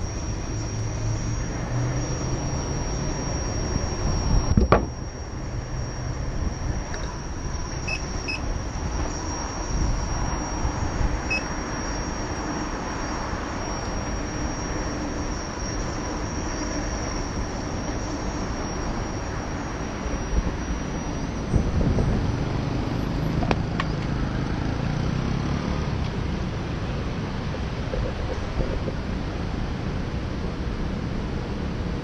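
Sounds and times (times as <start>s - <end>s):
electric unicycle rolling: 0.0s - 32.0s
road traffic: 0.0s - 32.0s.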